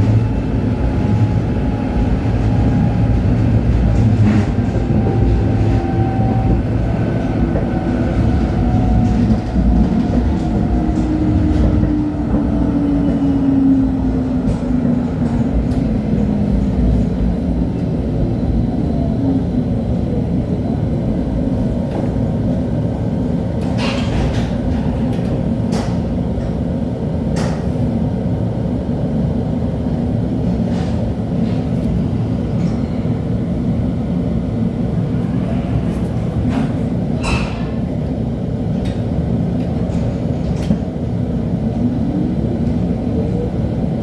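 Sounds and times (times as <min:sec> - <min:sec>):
light-rail car rumbling on rails: 0:00.0 - 0:44.0.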